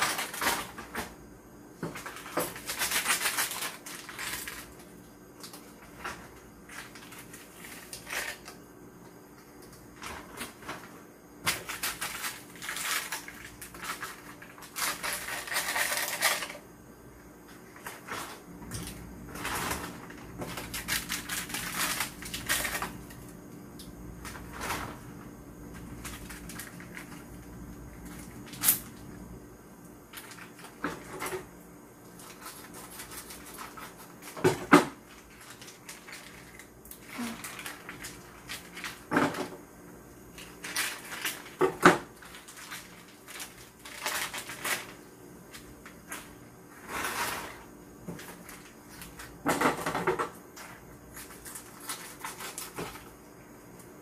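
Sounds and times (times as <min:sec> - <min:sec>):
plastic packaging crinkling: 0:00.0 - 0:01.0, 0:01.9 - 0:08.6, 0:09.6 - 0:16.6, 0:17.6 - 0:23.5, 0:24.2 - 0:29.1, 0:32.1 - 0:34.4, 0:35.0 - 0:39.1, 0:40.3 - 0:49.4, 0:50.6 - 0:53.1.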